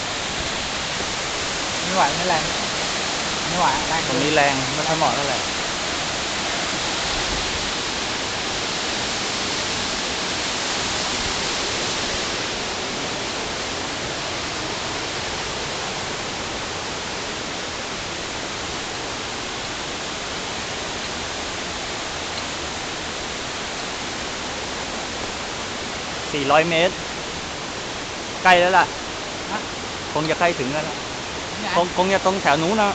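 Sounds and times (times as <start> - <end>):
waterfall stream rushing: 0.0 - 32.9.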